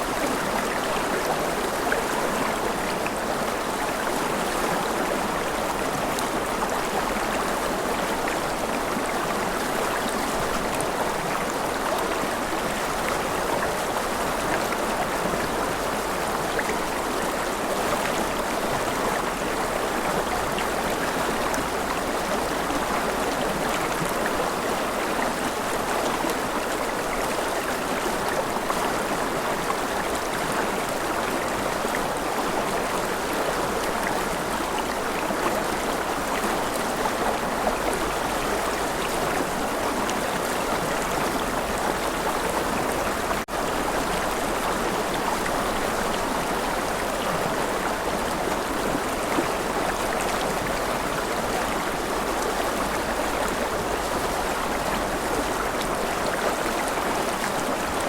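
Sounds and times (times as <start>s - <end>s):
river water flowing over stones: 0.0s - 58.0s.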